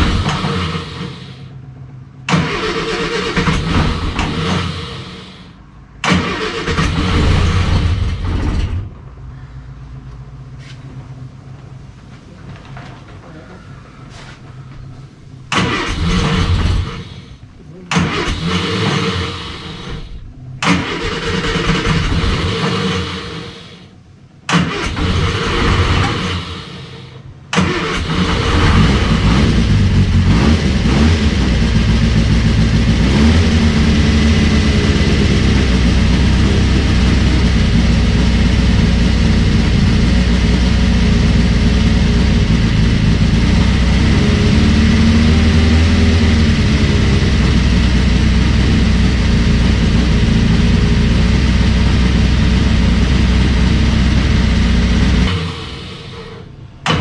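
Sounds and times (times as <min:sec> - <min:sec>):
engine starter cranking: 0:00.0 - 0:09.0, 0:14.1 - 0:57.0
race engine running: 0:00.0 - 0:57.0.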